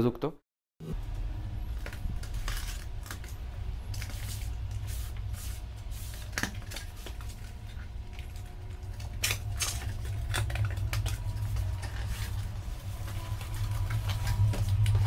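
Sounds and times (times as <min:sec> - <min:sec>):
steady low hum: 0:00.8 - 0:15.0
packing tape pulled: 0:01.7 - 0:05.2, 0:06.0 - 0:15.0.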